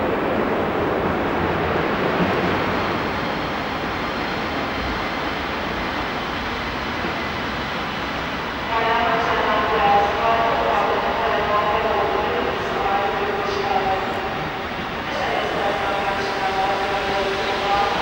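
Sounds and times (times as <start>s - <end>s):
electric locomotive passing: 0.0s - 18.0s.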